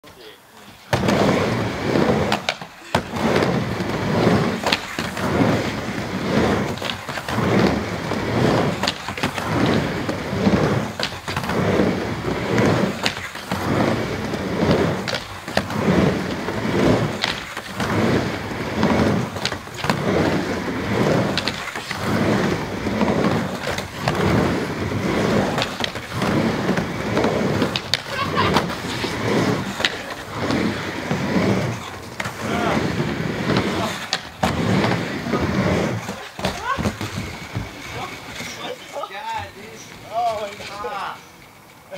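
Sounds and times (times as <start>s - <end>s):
skateboard wheels rolling on wood: 0.0s - 41.9s
skateboard clacking on coping: 0.8s - 41.9s.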